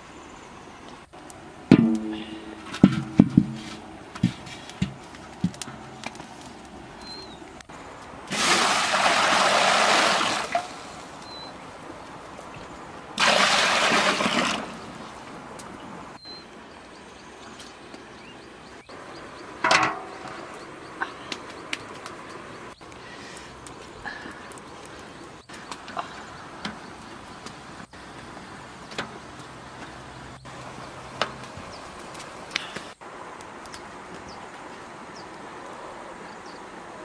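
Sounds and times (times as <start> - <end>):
rushing water: 5.4 - 35.7.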